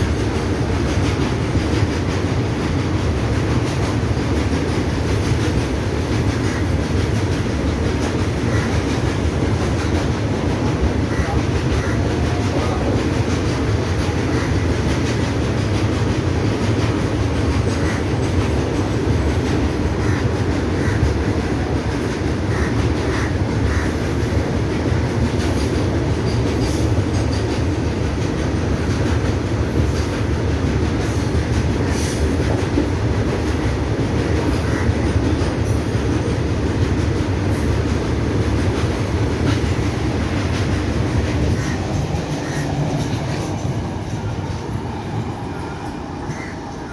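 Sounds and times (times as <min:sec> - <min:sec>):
train rumbling on rails: 0:00.0 - 0:46.9.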